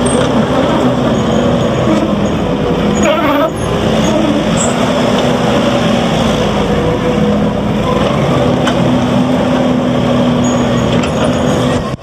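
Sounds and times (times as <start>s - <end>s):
diesel engine running: 0.0s - 12.0s
track and ground noise: 0.0s - 12.0s.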